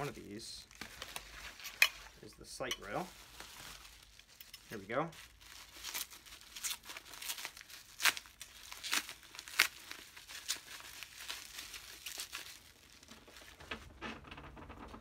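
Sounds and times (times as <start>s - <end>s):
packaging wrap crinkling and tearing: 0.0s - 2.2s, 2.9s - 13.8s.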